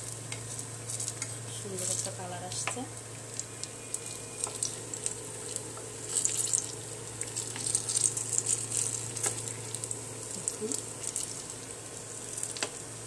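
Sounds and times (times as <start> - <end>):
low steady hum: 0.0 - 13.0
oil sizzling and crackling: 0.0 - 13.0.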